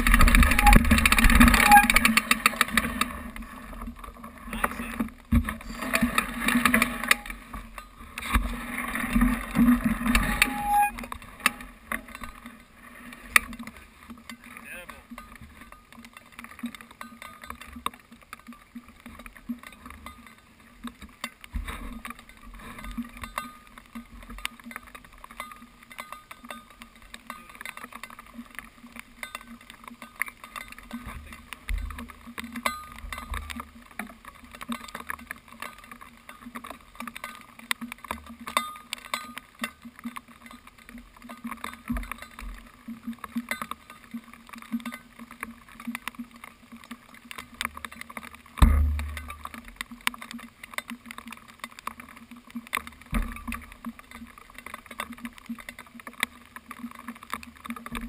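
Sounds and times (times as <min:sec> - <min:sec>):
small clicks and knocks: 0:00.0 - 0:58.0.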